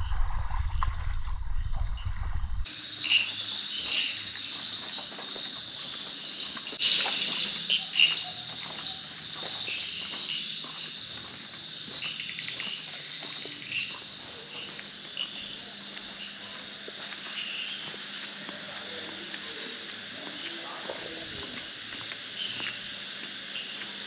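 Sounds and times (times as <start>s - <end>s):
high insect trills: 2.0s - 24.0s
frogs chirping calls: 2.6s - 24.0s.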